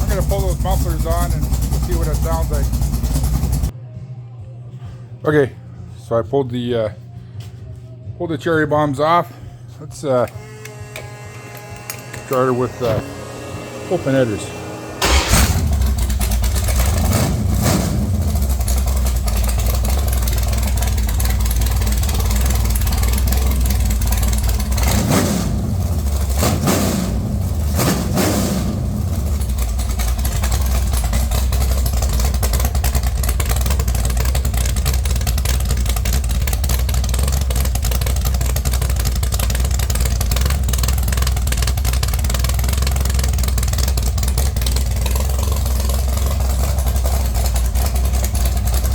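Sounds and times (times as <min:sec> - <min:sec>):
vee eight engine revving and idling: 0:00.0 - 0:03.7, 0:10.3 - 0:48.9.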